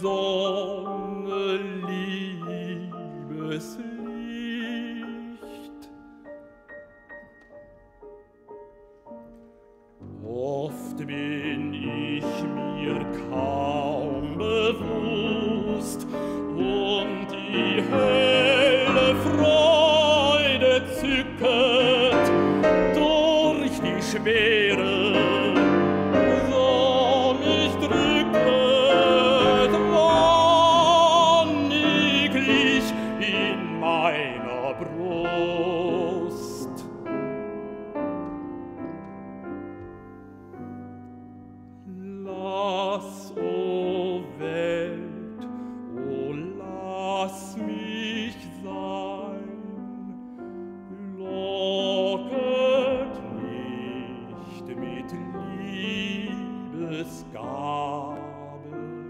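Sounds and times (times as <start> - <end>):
baritone singing: 0.0 - 6.5, 9.0 - 40.8, 41.8 - 59.0
piano accompaniment: 0.0 - 59.0.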